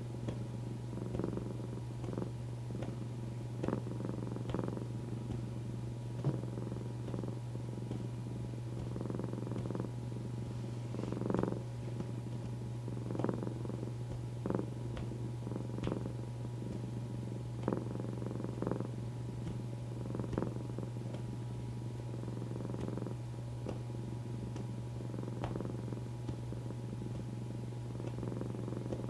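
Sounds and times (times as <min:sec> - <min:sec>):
cat purring: 0:00.0 - 0:29.0
white-noise hiss: 0:00.0 - 0:29.0.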